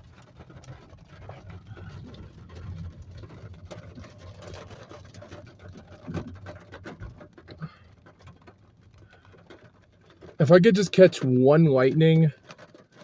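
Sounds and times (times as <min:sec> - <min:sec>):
car low hum: 0:00.0 - 0:12.7
raindrops ticking on car: 0:00.0 - 0:13.0.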